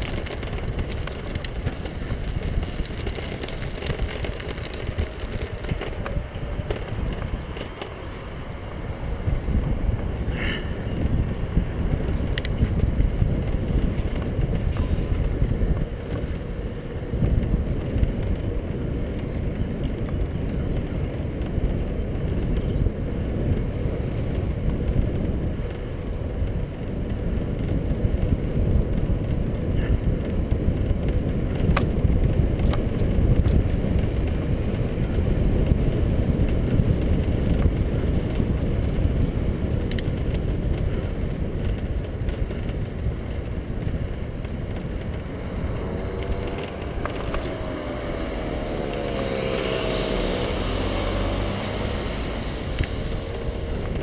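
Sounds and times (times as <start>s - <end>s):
bicycle tyre rumble on asphalt: 0.0s - 54.0s
wind on microphone: 0.0s - 54.0s.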